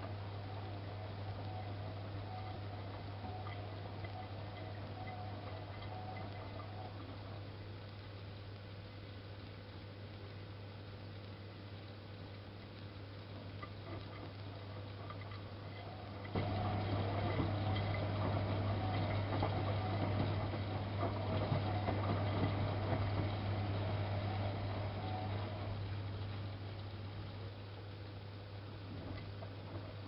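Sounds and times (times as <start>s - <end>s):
washing machine humming: 0.0s - 10.3s, 11.4s - 30.0s.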